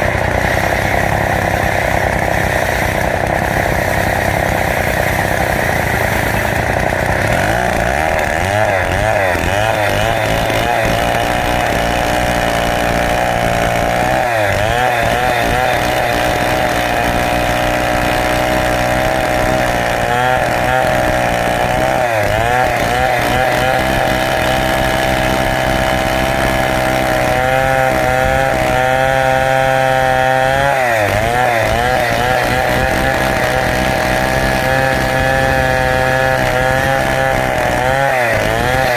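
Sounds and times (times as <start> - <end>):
chainsaw cutting through log: 0.0 - 38.9.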